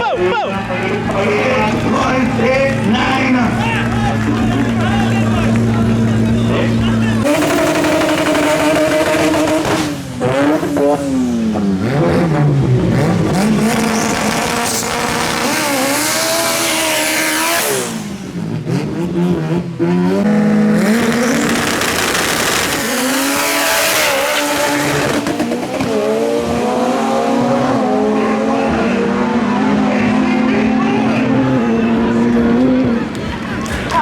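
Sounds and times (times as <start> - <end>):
drag racing car engines revving: 0.0 - 34.0.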